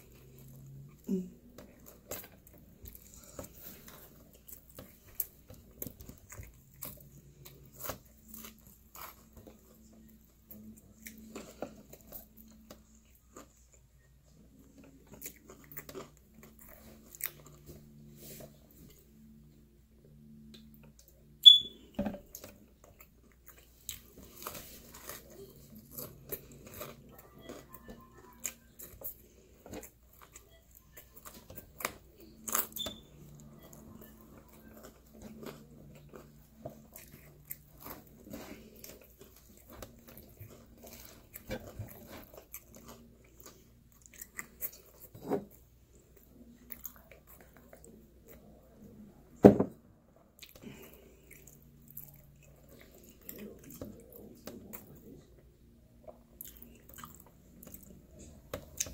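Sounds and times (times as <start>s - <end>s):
person chewing pizza: 0.0s - 49.2s, 50.3s - 58.9s.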